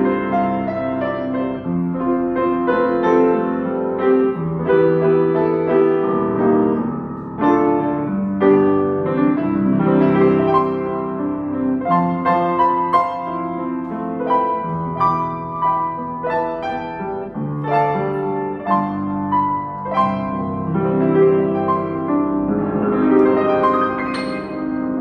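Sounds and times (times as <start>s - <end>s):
upright piano playing: 0.0s - 25.0s.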